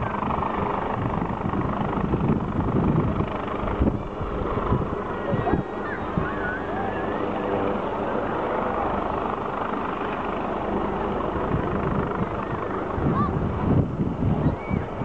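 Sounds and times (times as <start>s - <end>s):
helicopter rotor and turbine drone: 0.0s - 15.0s.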